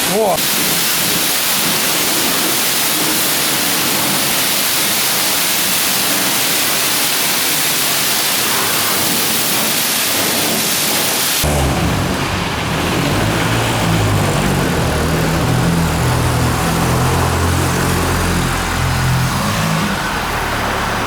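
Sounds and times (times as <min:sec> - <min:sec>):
pressure washer spraying hiss: 0:00.0 - 0:21.0.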